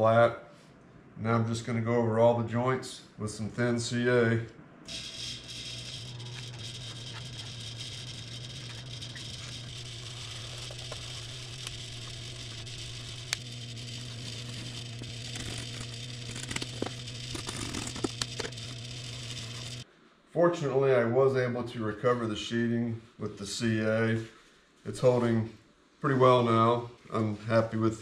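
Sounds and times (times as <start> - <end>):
workshop hum and hiss: 0.0 - 28.0.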